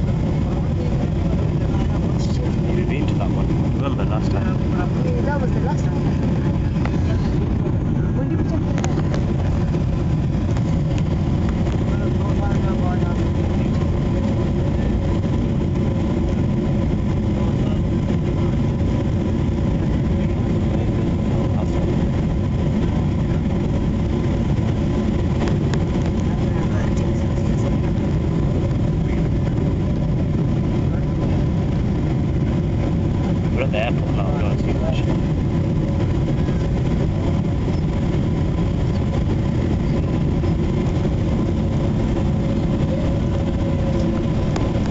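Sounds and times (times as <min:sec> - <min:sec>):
faint steady engine tones: 0:00.0 - 0:44.9
faint steady whine: 0:00.0 - 0:44.9
low rumble of engines and airflow: 0:00.0 - 0:44.9.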